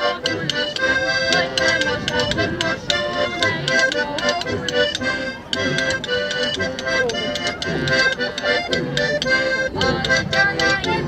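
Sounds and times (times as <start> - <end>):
accordion folk dance tune: 0.0 - 11.0
steady quick beat: 0.0 - 11.0.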